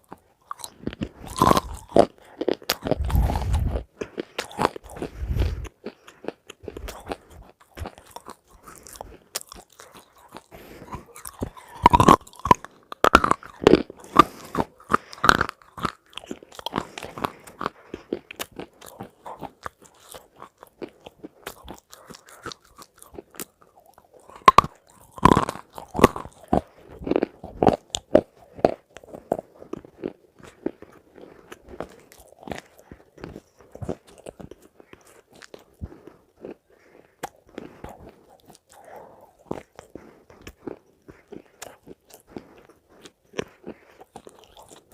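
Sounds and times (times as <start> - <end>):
person eating crunchy food: 0.0 - 44.9.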